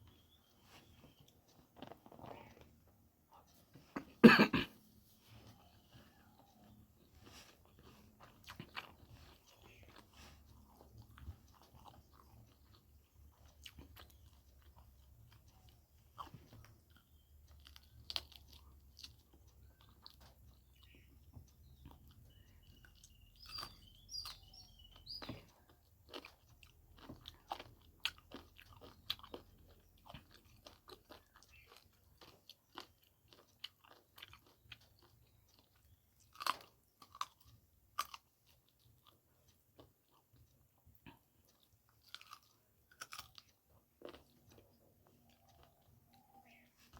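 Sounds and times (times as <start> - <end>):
chewing with mouth clicks: 0.1 - 4.2, 5.3 - 46.9.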